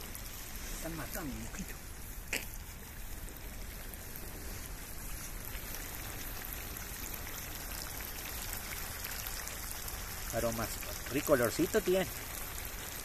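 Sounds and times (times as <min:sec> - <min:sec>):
fish frying in a pan: 0:00.0 - 0:13.0.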